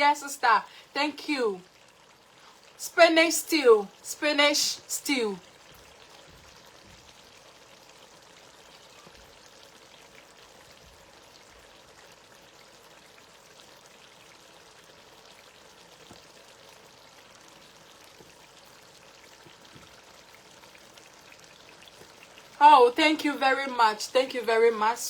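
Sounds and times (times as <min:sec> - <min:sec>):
stew simmering in a pot: 0:00.0 - 0:25.0.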